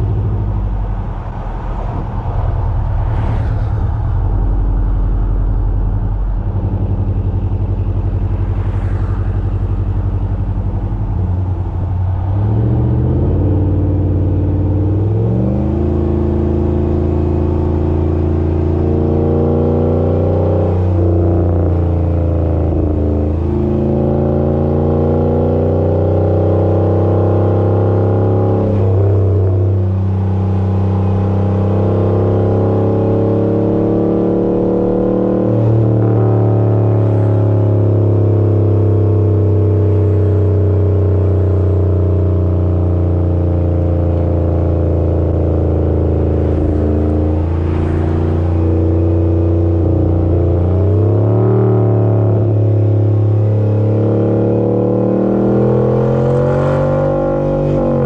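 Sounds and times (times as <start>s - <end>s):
car exhaust accelerating with upshifts: 0.0s - 58.0s.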